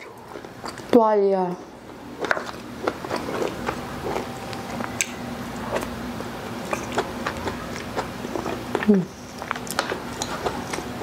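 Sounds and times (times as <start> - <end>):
faint steady hum: 0.0 - 11.0
wet chewing and mouth clicks: 2.2 - 11.0.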